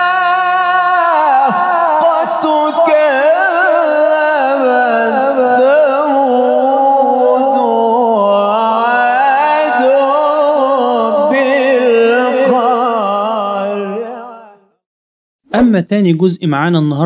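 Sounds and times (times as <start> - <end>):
man reciting melodically: 0.0 - 14.6, 15.5 - 17.0.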